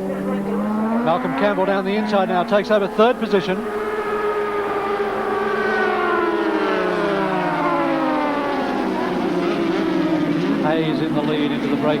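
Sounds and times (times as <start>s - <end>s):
motorcycles at high revs: 0.0s - 12.0s.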